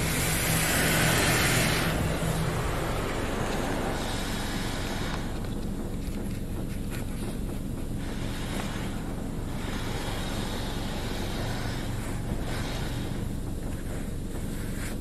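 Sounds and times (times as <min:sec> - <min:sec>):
car wash machine hum: 0:00.0 - 0:15.0
water spray washing over car: 0:00.0 - 0:15.0.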